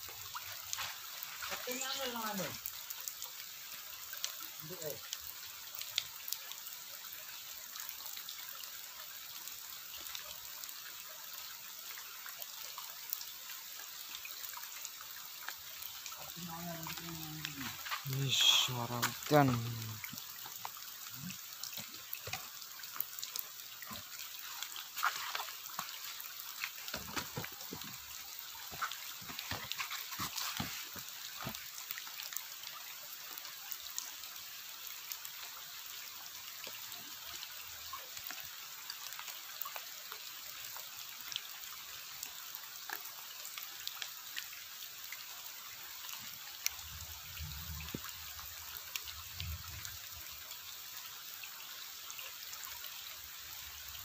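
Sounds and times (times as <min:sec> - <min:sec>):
rain falling on river: 0:00.0 - 0:54.0.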